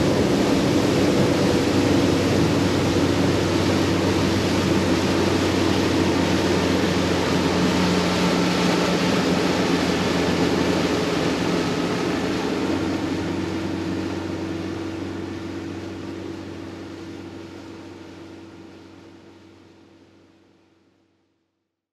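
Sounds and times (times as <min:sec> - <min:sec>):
rush of wind and water: 0:00.0 - 0:20.3
boat engine running: 0:00.0 - 0:20.8.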